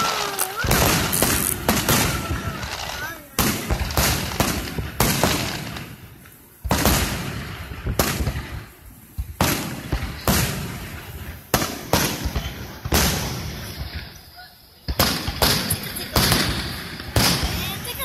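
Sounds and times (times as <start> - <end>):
fireworks booming with rolling echo: 0.0 - 18.0.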